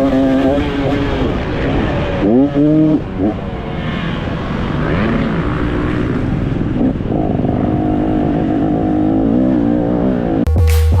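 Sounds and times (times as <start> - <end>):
vehicle engine revving: 0.0 - 10.9.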